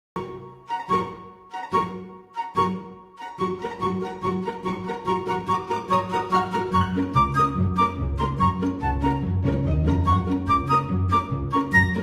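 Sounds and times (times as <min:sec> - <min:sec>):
upbeat background music: 0:00.2 - 0:12.0.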